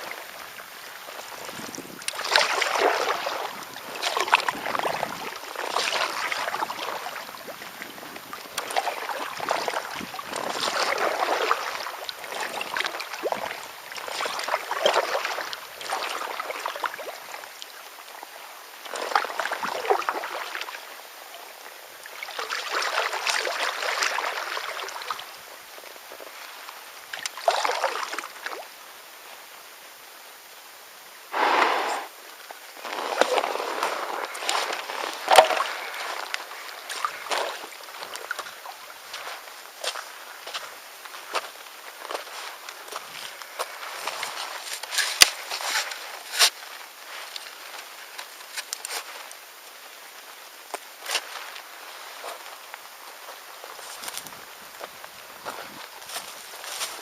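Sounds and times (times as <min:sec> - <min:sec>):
kayak paddle splashing: 0:00.0 - 0:21.0, 0:22.0 - 0:28.8, 0:31.3 - 0:57.0.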